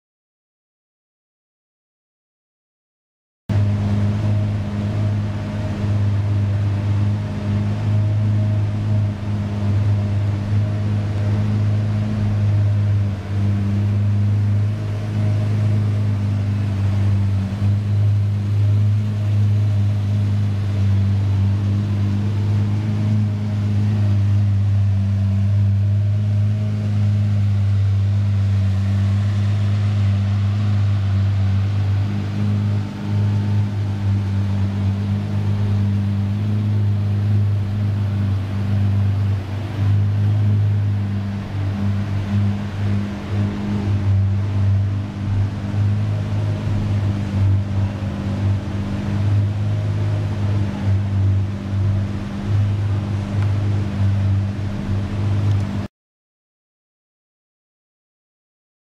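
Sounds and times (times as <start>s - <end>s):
car engine idling: 3.5s - 55.8s.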